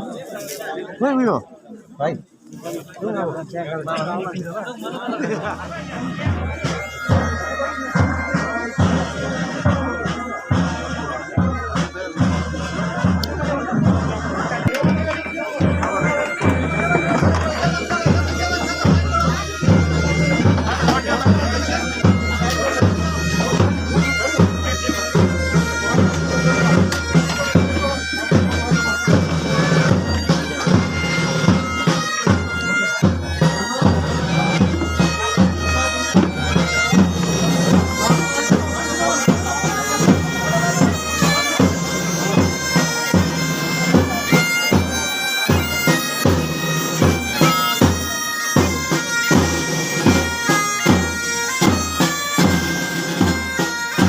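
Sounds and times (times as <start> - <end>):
drum beat: 5.3 - 54.0
bagpipes playing slow tune: 5.6 - 54.0.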